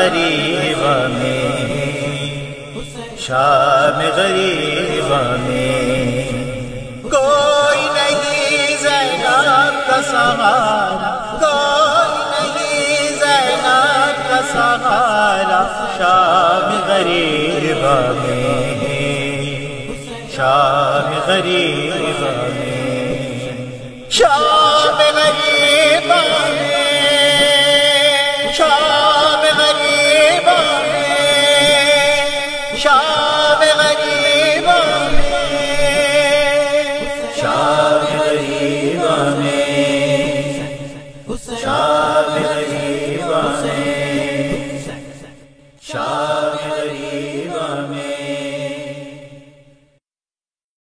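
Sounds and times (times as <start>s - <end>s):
man chanting a lament: 0.0s - 49.5s.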